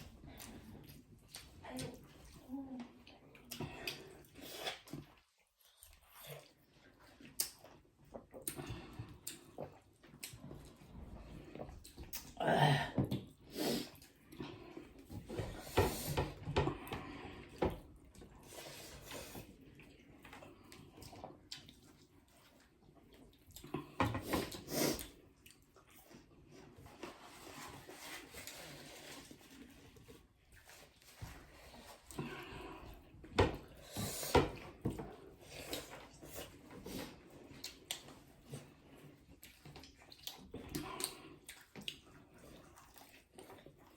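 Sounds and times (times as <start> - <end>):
wet chewing and slurping: 0.0 - 12.4, 13.1 - 43.9.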